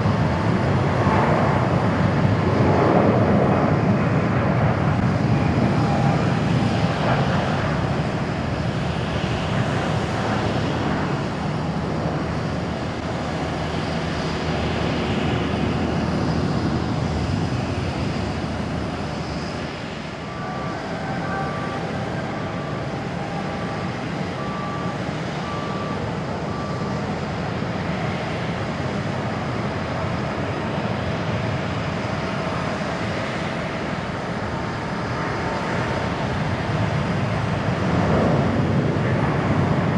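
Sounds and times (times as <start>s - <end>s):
jet engines at take-off power: 0.0s - 39.9s.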